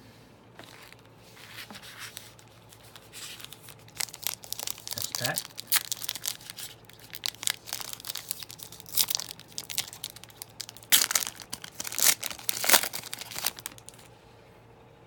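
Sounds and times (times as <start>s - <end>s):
wrapper crinkling and tearing: 1.8s - 14.1s.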